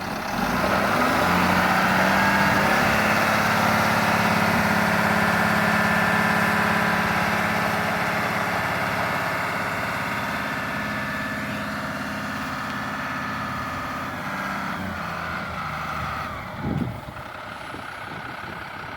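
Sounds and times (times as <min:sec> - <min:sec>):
diesel truck engine running: 0:00.0 - 0:18.9.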